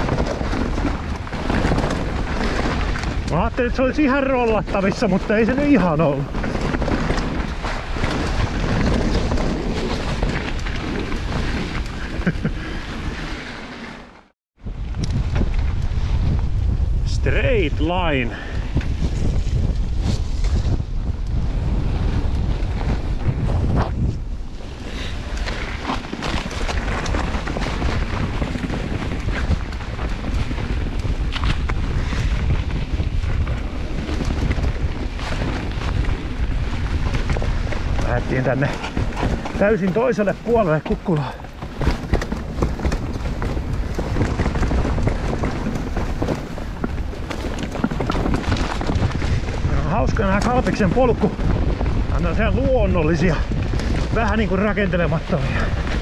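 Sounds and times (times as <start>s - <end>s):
bike knocks and rattles: 0.0s - 13.0s, 18.4s - 56.0s
wind buffeting microphone: 0.0s - 13.4s, 14.6s - 56.0s
tyres rumbling on dirt: 0.0s - 14.2s, 17.0s - 56.0s.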